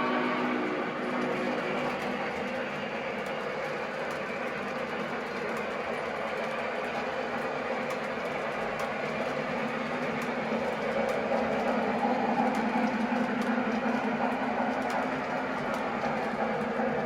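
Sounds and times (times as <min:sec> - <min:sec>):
light rail clicks: 0:00.0 - 0:17.0
model train motor hum: 0:00.0 - 0:17.0.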